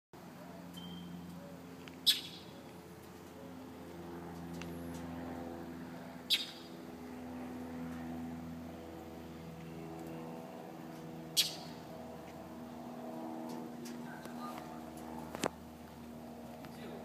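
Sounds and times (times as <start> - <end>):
low mechanical hum: 0.2 - 17.0.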